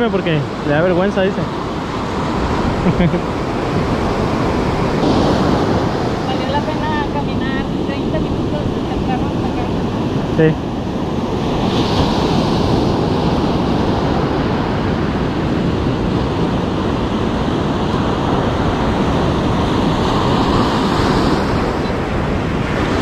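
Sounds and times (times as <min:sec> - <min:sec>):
surf washing up a beach: 0:00.0 - 0:23.0
wind rumbling on microphone: 0:00.0 - 0:23.0.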